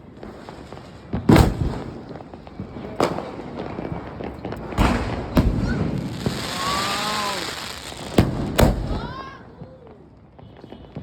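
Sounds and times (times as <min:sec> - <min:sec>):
fireworks bangs: 0:00.0 - 0:09.7.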